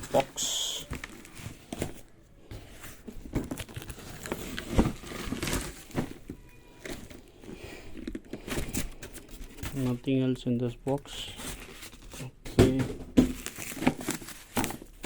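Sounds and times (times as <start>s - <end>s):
cardboard packaging rustling: 0.0s - 15.0s.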